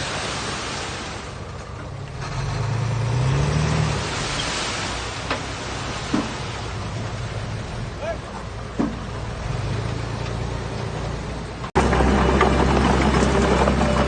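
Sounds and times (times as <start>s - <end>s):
diesel engine revving: 1.4s - 14.0s.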